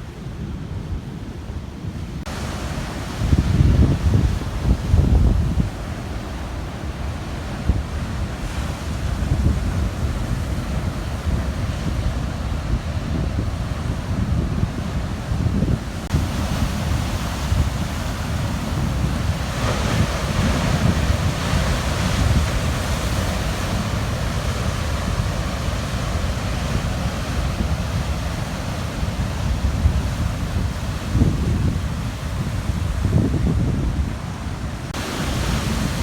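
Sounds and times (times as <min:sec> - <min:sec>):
wind buffeting microphone: 0:00.4 - 0:36.0
waves crashing on rocks: 0:02.2 - 0:36.0.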